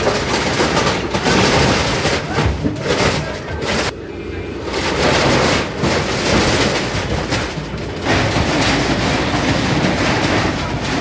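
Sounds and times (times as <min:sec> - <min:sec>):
bucket crushing tin roof: 0:00.0 - 0:03.9, 0:04.7 - 0:11.0
metal sheets clattering and crashing: 0:00.0 - 0:03.9, 0:04.6 - 0:11.0
excavator engine running: 0:00.0 - 0:11.0.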